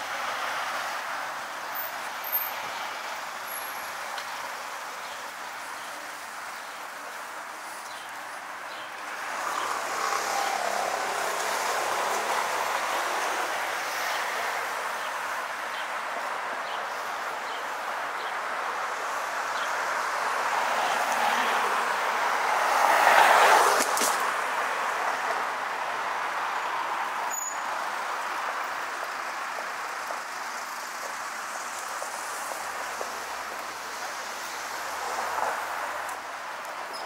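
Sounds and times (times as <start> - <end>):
road traffic hiss: 0.0 - 37.0.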